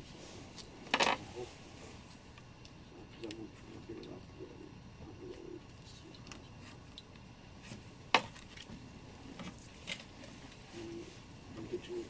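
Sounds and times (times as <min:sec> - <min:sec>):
faint low murmur: 0:00.0 - 0:12.0.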